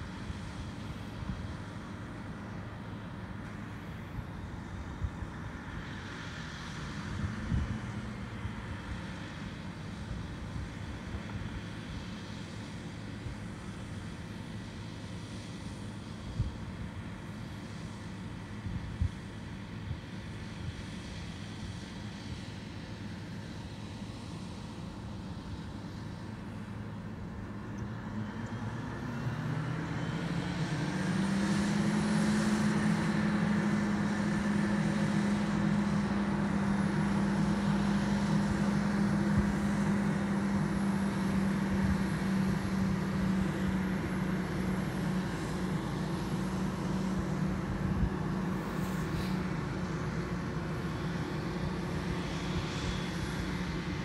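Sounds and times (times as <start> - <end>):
heavy harvester engine drone: 0.0 - 54.0.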